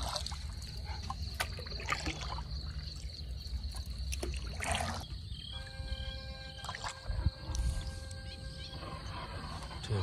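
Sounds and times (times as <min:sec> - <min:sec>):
water trickling and sloshing: 0:00.0 - 0:10.0.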